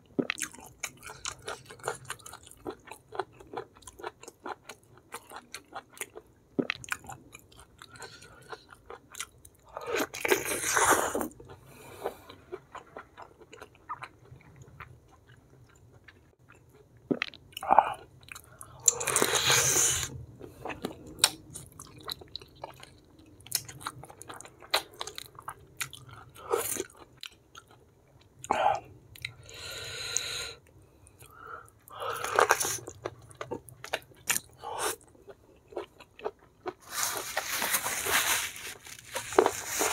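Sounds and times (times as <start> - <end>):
person chewing food: 0.1 - 39.9.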